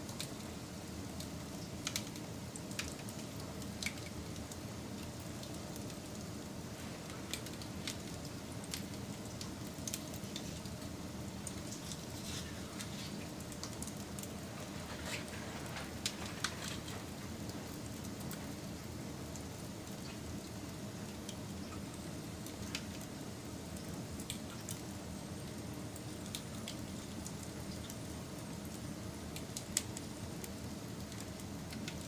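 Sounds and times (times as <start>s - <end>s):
crackles and pops of burning wood: 0.0s - 32.0s
wood fire burning: 0.0s - 32.0s.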